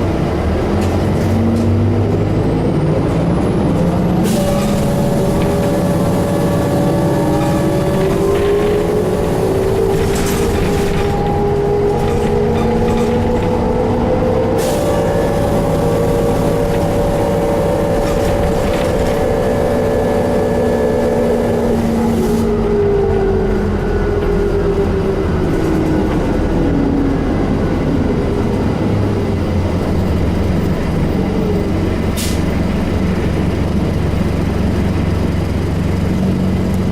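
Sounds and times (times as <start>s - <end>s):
bus diesel engine droning: 0.0s - 36.9s
drivetrain whine: 0.0s - 36.9s.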